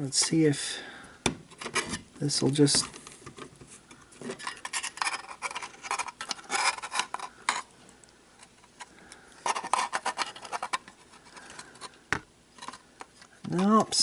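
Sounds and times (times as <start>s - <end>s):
scraping of plastic and metal: 1.5s - 7.7s, 8.4s - 13.9s.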